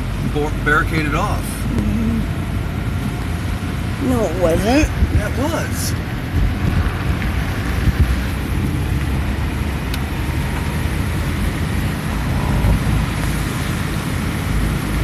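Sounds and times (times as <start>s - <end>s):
car road noise and engine rumble: 0.0s - 15.0s.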